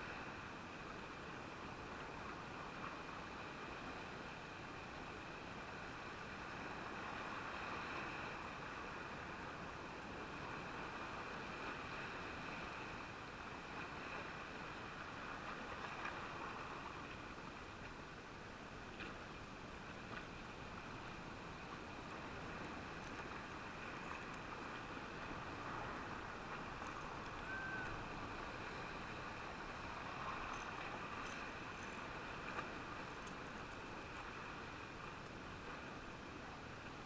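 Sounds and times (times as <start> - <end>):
sea surf on rocks: 0.0 - 37.0.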